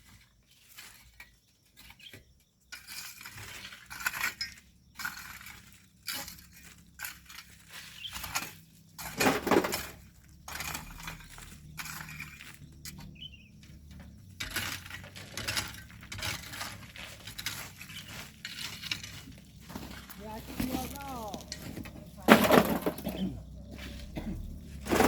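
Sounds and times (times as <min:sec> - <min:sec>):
hand tools scraping sand and stones: 0:00.0 - 0:25.0.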